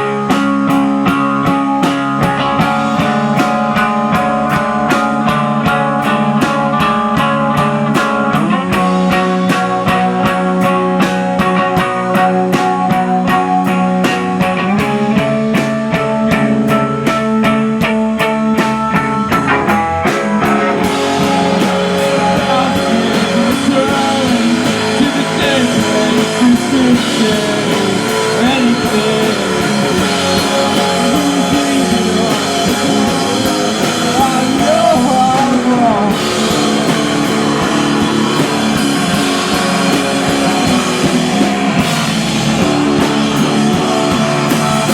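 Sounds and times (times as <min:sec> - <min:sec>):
drum kit: 0:00.0 - 0:44.9
electric guitars: 0:00.0 - 0:44.9.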